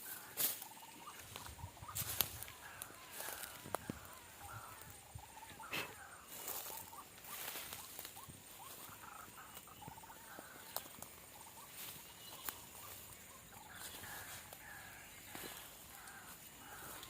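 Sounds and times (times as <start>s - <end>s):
waterhens croaking: 0.0s - 17.0s.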